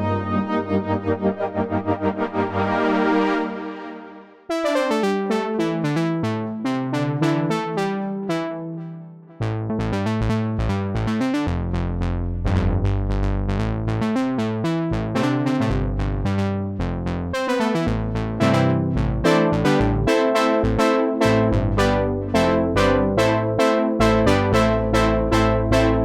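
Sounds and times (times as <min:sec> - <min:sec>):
synthesizer bass notes: 0:00.0 - 0:03.6, 0:05.3 - 0:26.0
synthesizer plucked notes: 0:00.0 - 0:03.8, 0:04.5 - 0:12.7, 0:14.1 - 0:16.4, 0:17.3 - 0:26.0.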